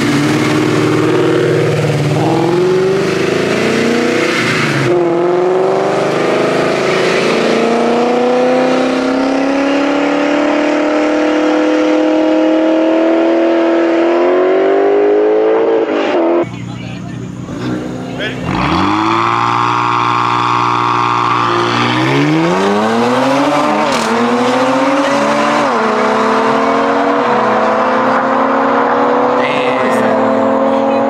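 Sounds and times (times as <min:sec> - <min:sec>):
car engine accelerating hard: 0:00.0 - 0:16.5, 0:17.4 - 0:31.0.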